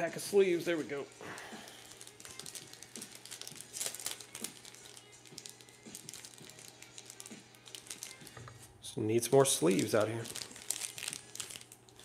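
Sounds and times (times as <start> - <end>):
faint background music: 0.0 - 12.0
plastic sleeves crinkling: 0.0 - 12.0.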